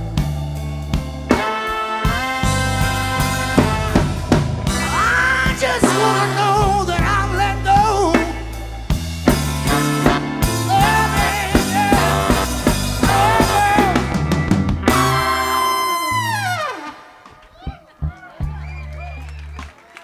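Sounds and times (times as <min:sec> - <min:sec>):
lead melody with wide vibrato: 0:00.0 - 0:17.3
soul band playing slow ballad: 0:00.0 - 0:17.4.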